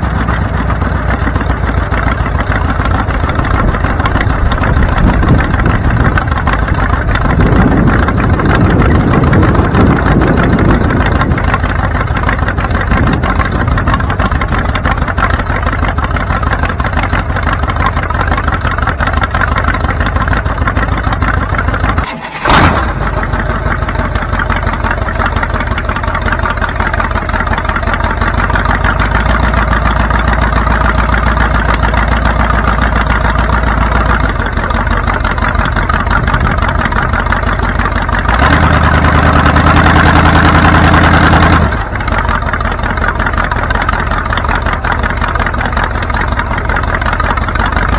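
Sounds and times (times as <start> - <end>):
car engine running: 0.0 - 47.9.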